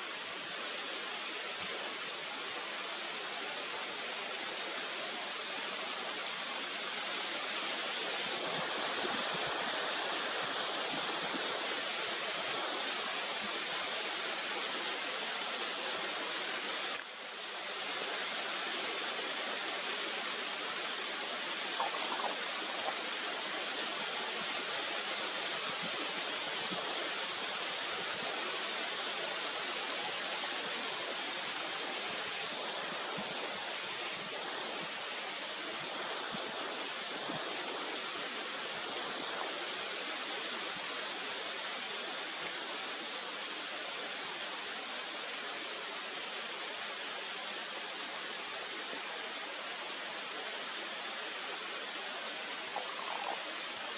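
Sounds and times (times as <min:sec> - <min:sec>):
flowing water rushing: 0:00.0 - 0:53.9.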